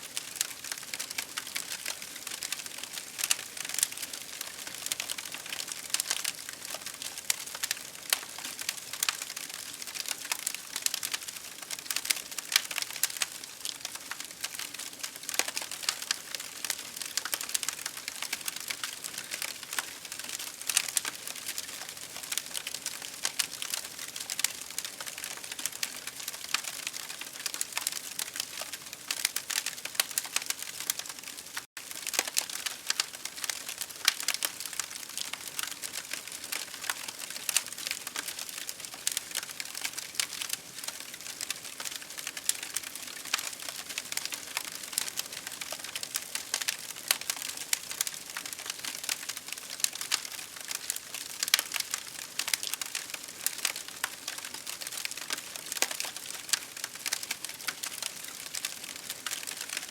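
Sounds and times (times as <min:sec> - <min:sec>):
campfire crackling: 0:00.1 - 0:59.9.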